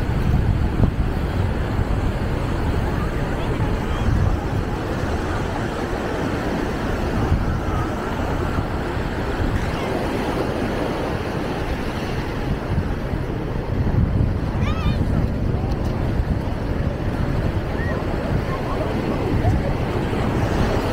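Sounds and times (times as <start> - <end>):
ocean surf washing up: 0.0 - 20.9
wind buffeting microphone: 0.0 - 20.9.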